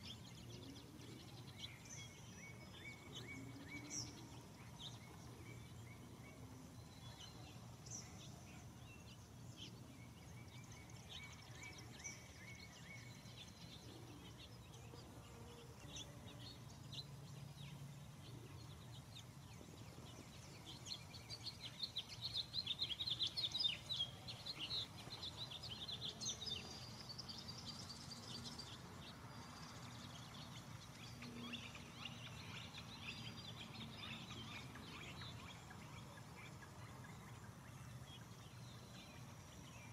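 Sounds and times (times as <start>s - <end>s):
bird chirps: 0.0s - 39.9s
faint outdoor background noise: 0.0s - 39.9s.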